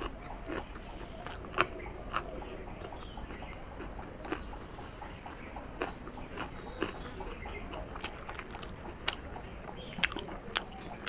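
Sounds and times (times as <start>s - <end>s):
chewing noodles with wet mouth clicks: 0.0s - 11.0s.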